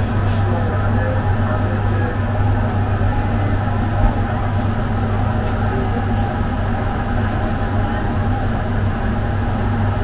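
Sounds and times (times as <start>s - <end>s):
mechanical hum with low drone: 0.0s - 10.0s.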